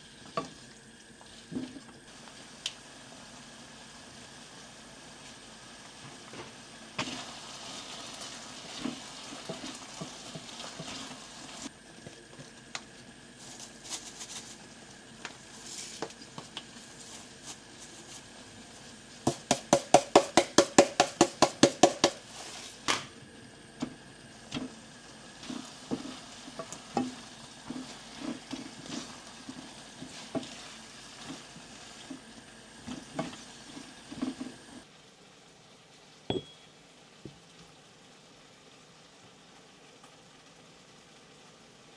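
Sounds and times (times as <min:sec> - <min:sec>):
food sizzling in a pan: 0:00.0 - 0:41.9.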